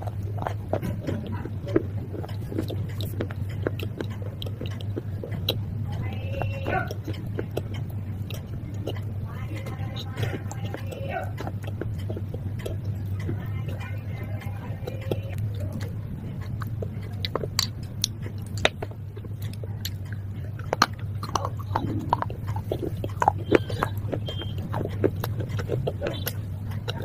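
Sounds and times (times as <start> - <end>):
crunchy chewing: 0.0 - 27.0
steady low hum: 0.0 - 27.0.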